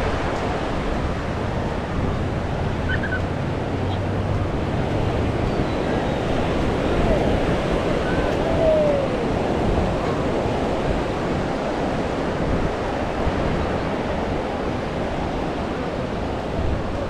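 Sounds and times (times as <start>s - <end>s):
ocean surf washing on shore: 0.0s - 17.0s
wind gusting on microphone: 0.0s - 17.0s.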